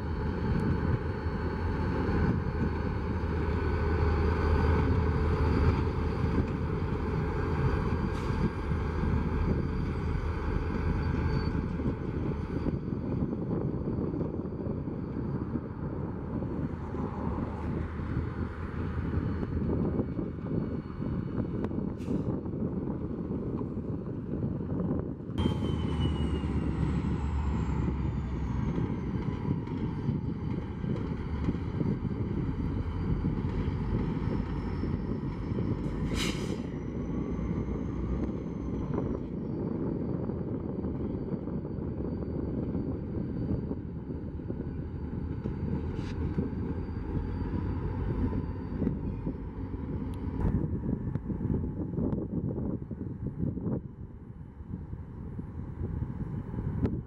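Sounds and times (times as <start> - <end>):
vehicle rumbling: 0.0 - 57.0.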